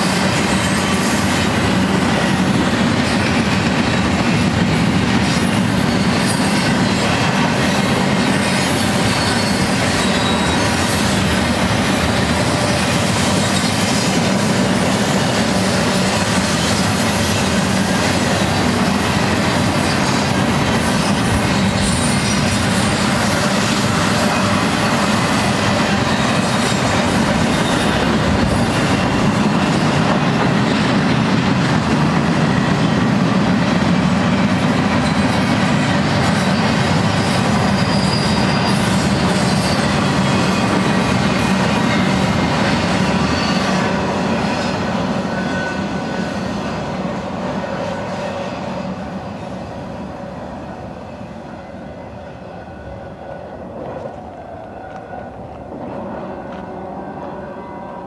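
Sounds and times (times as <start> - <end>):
freight train wheels rumbling: 0.0 - 58.0
high wheel squeal: 5.2 - 31.2, 34.6 - 58.0.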